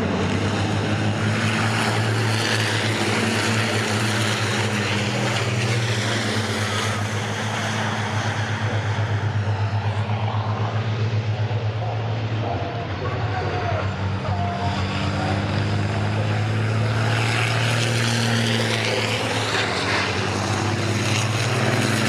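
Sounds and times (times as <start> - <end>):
racing truck engines passing: 0.0 - 22.0.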